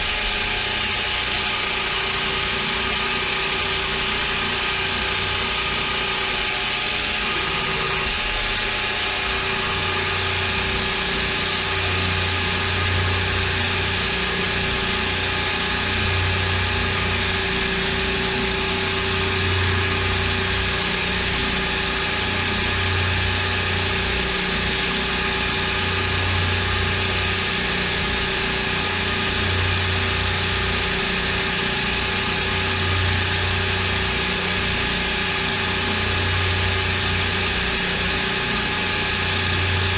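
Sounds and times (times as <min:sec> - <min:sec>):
low hum: 0:00.0 - 0:39.9
mill motor and spindle whine: 0:00.0 - 0:39.9.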